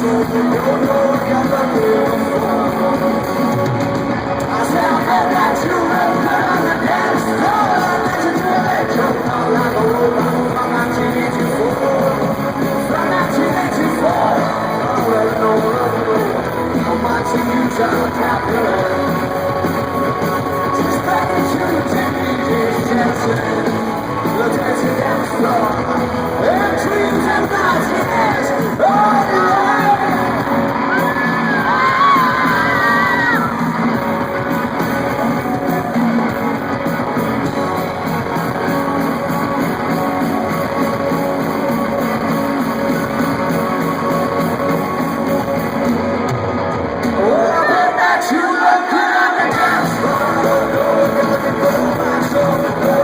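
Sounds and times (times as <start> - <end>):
drums: 0.0 - 53.0
electric guitars: 0.0 - 53.0
voices singing and yelling: 0.0 - 53.0.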